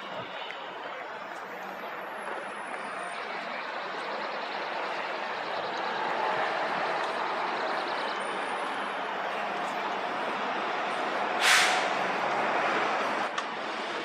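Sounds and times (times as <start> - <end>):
motor vehicle running: 0.0 - 14.0.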